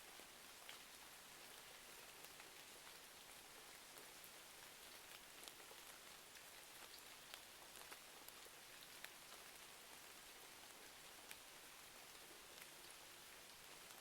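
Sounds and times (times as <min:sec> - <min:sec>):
faint steady rain: 0:00.0 - 0:14.0.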